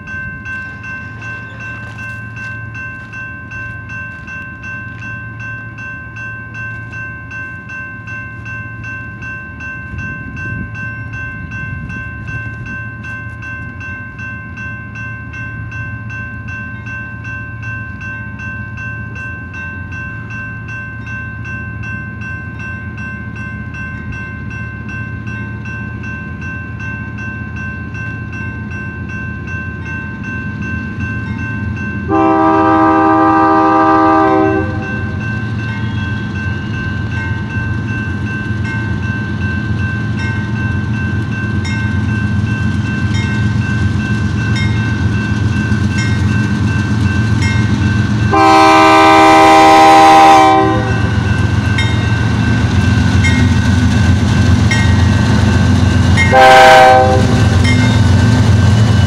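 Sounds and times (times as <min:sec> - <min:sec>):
crossing warning bell ringing: 0:00.0 - 0:59.0.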